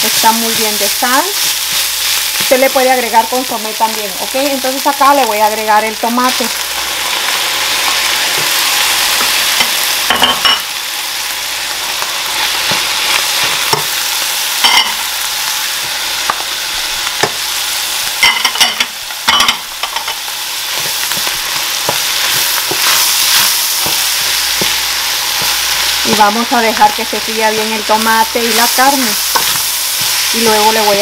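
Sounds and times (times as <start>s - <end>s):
meat sizzling in a skillet: 0.0s - 31.0s.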